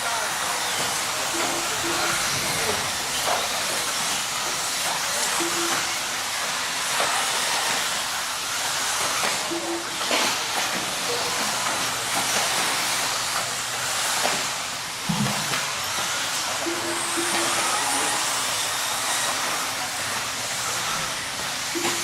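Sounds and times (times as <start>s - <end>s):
rc car motors and tyres hissing: 0.0s - 22.0s.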